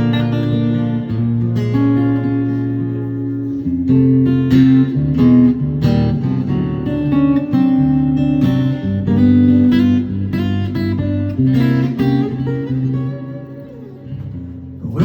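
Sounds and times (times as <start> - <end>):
acoustic guitar blues: 0.0 - 15.0.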